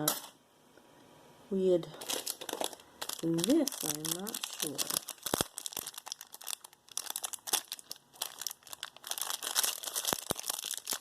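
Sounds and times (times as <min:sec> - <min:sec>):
plastic packaging crinkling: 0:02.0 - 0:11.0.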